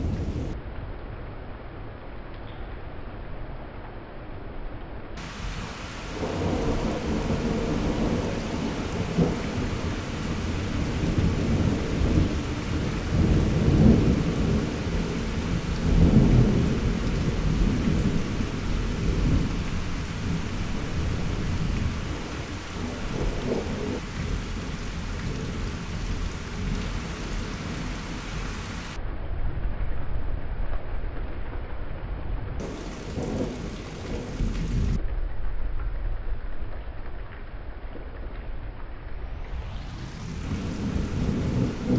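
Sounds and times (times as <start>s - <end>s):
thunder rumbling: 0.0s - 0.6s, 5.2s - 31.6s, 32.2s - 41.9s
steady rain: 0.0s - 41.9s.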